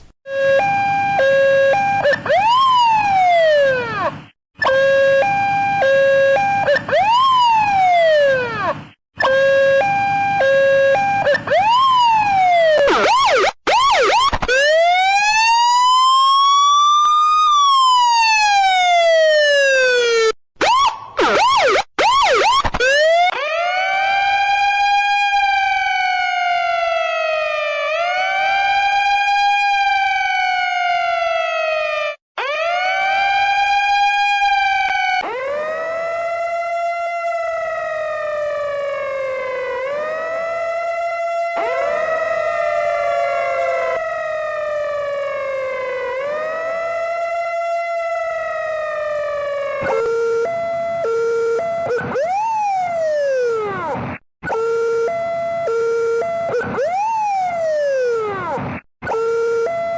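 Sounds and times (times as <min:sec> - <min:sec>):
emergency vehicle sirens: 0:00.3 - 0:59.9.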